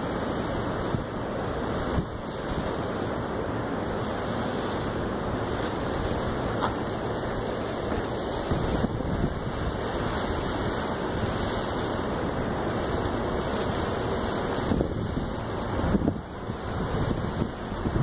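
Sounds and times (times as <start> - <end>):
wind blowing across microphone: 0.0 - 18.0.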